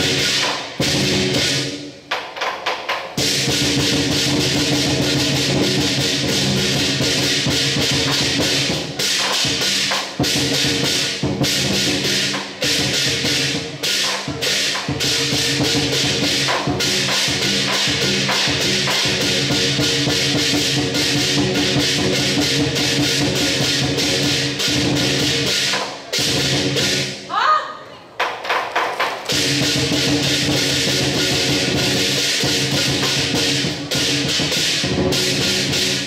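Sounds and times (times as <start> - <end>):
big drum beating rapidly: 0.0 - 1.8, 3.1 - 27.1, 29.2 - 36.0
clashing cymbals: 0.0 - 2.1, 3.2 - 27.2, 29.3 - 36.0.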